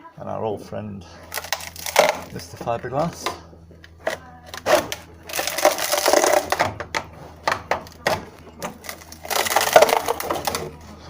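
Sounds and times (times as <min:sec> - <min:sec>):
fibreglass crunching and scraping: 0:01.1 - 0:11.0.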